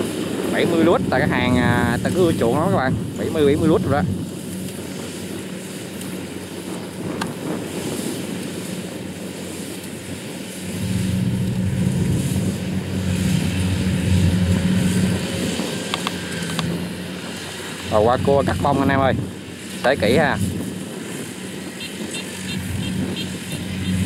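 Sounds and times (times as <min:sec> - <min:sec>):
combine harvester diesel engine hum: 0:00.0 - 0:24.0.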